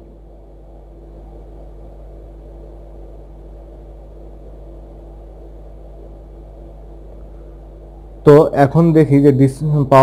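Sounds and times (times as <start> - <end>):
constant low tone: 0.0 - 10.0
cpu cooler fan whirring: 0.0 - 10.0.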